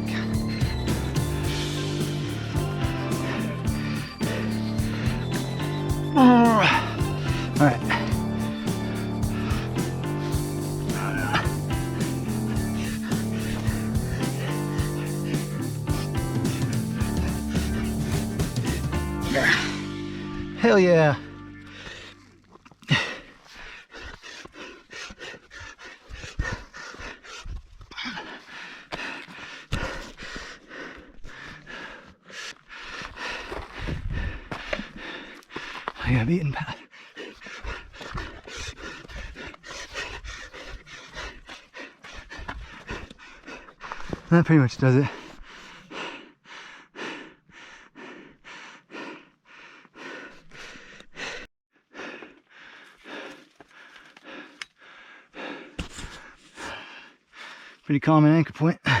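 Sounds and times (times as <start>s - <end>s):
person panting hard: 0.0s - 20.2s, 21.5s - 57.9s
heavy breathing: 0.0s - 20.6s, 21.2s - 57.9s.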